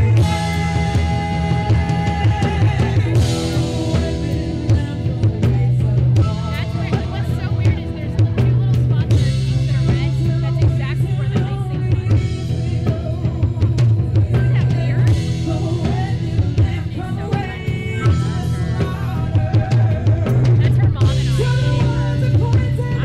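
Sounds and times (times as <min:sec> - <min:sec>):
live band playing: 0:00.0 - 0:23.0
woman singing lead vocal: 0:00.0 - 0:23.0.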